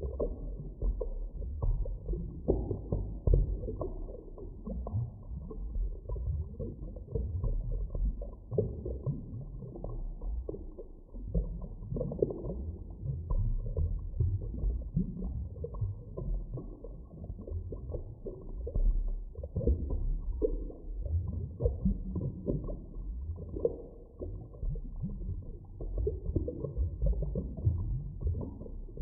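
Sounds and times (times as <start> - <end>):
muffled underwater rumble: 0.0 - 29.0.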